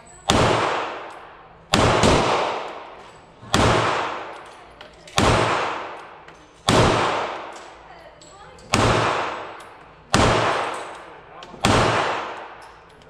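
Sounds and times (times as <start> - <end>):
pistol shots echoing indoors: 0.2 - 13.0.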